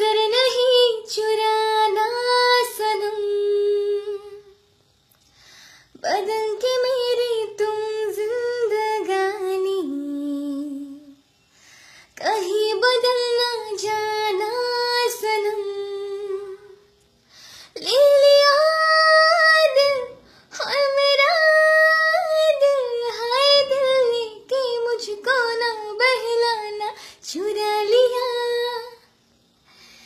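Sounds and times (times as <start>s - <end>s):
woman singing unaccompanied: 0.0s - 4.6s, 6.0s - 11.2s, 12.2s - 16.8s, 17.7s - 29.1s.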